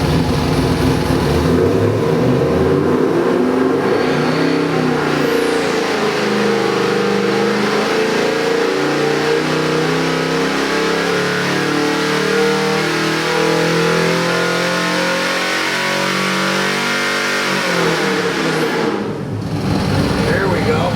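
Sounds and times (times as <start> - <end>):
car engine revving: 0.0 - 20.9.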